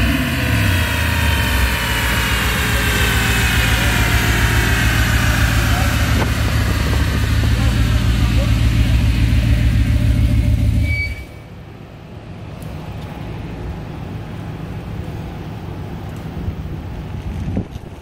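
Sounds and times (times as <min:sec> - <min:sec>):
car engine running hard: 0:00.0 - 0:18.0.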